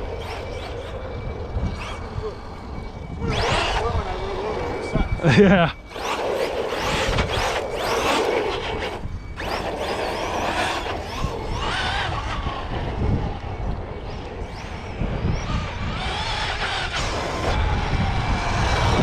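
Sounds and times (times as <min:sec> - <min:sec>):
electric toy car motors whining: 0:00.0 - 0:19.0.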